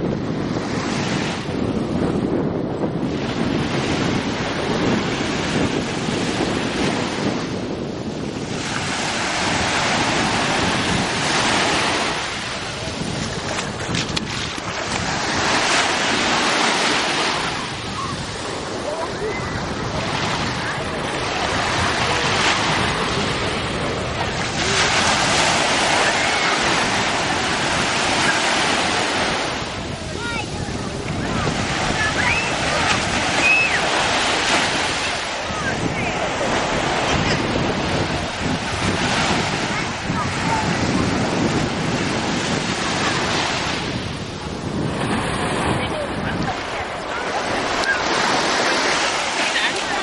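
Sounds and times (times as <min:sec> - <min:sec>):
sea waves breaking on shore: 0:00.0 - 0:50.0
wind rumbling on microphone: 0:00.0 - 0:50.0.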